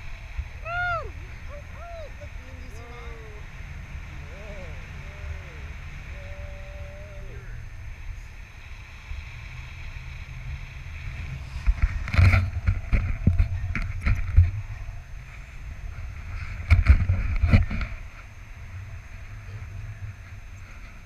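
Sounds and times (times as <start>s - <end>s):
wind buffeting camera microphone: 0.0s - 21.0s.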